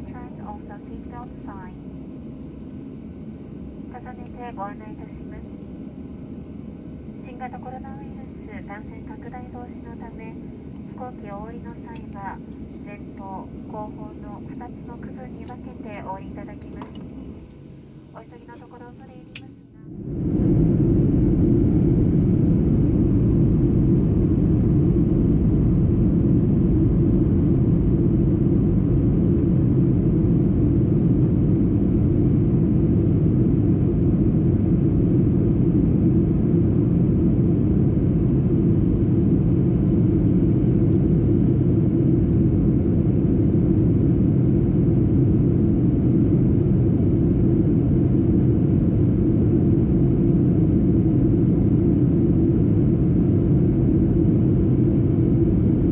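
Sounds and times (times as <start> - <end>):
airliner cabin drone: 0.0 - 55.9.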